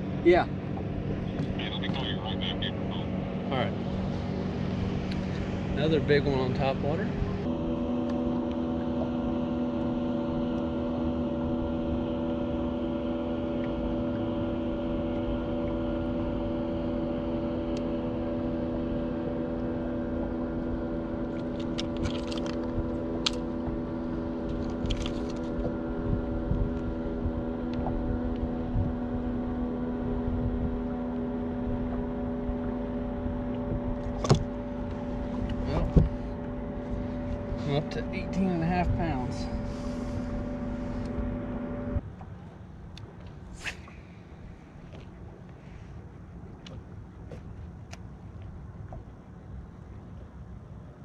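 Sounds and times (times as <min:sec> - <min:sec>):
boat machinery humming: 0:00.0 - 0:51.0.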